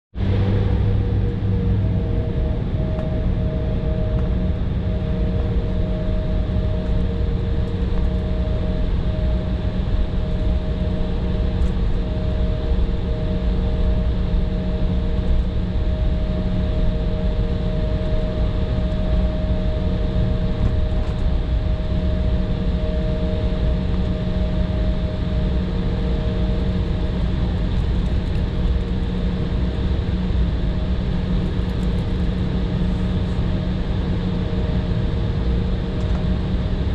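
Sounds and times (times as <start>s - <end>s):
airliner engine drone: 0.1s - 36.9s.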